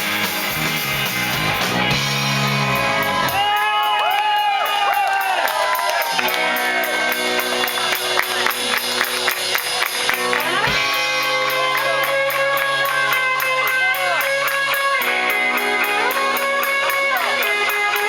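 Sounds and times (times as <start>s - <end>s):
electric guitars strummed: 0.0s - 18.0s
live rock band playing: 0.0s - 18.0s.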